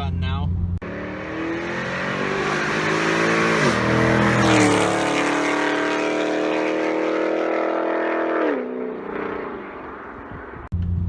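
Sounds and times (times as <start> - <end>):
car engine revving high: 0.8 - 10.7.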